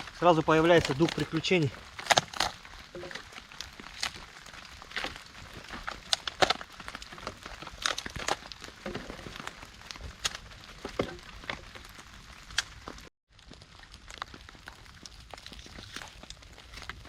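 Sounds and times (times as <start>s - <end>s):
dry wood cracking: 0.0s - 17.0s.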